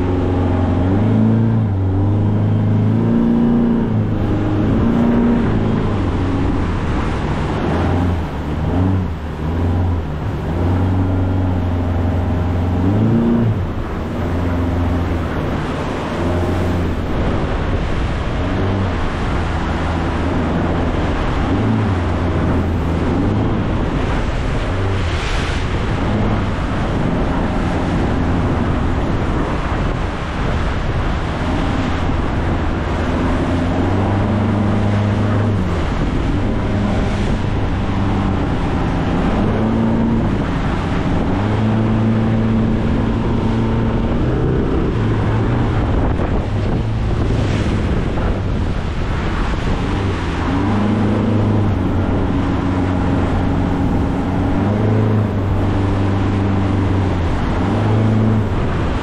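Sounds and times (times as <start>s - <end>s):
outboard engine running: 0.0s - 59.0s
water against boat: 0.0s - 59.0s
wind rushing: 0.0s - 59.0s.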